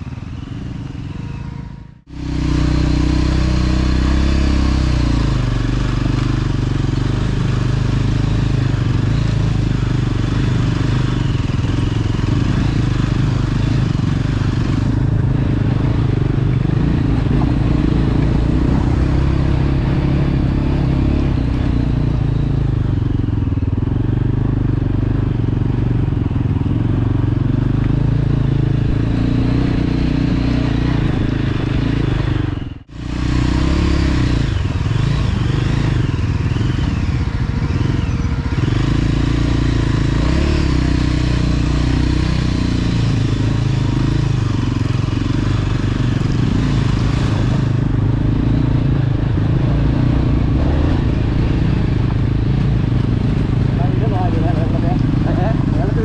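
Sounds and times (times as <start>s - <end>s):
motorcycle engine running at low revs: 0.0s - 56.0s.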